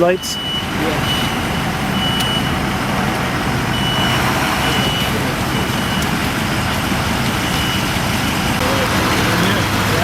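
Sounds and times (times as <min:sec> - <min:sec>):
vehicle backup alarm beeping: 0:00.0 - 0:02.8, 0:03.4 - 0:08.6
diesel engine rumble: 0:00.0 - 0:10.0.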